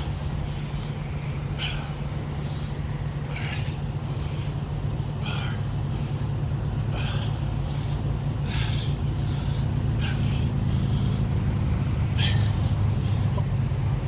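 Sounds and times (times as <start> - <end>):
short hard breaths: 0.0 - 13.5
diesel truck engine idling: 0.0 - 14.0.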